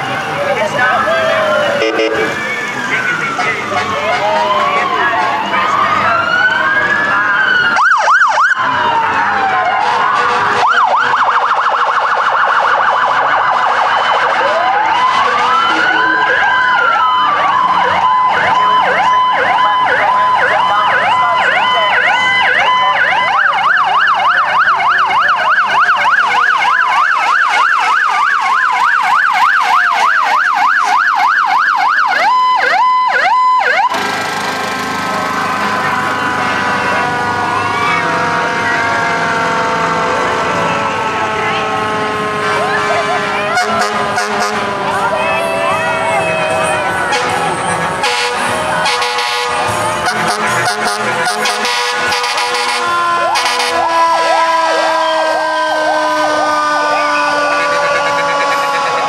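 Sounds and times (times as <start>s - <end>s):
emergency vehicle sirens: 0.0s - 59.0s.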